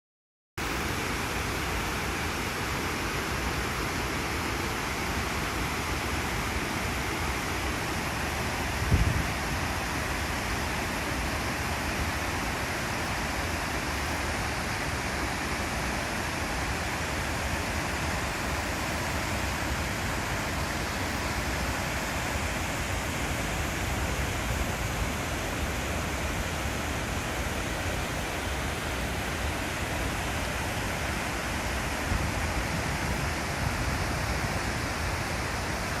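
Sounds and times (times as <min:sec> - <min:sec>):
water rushing over a dam: 0:00.6 - 0:36.0.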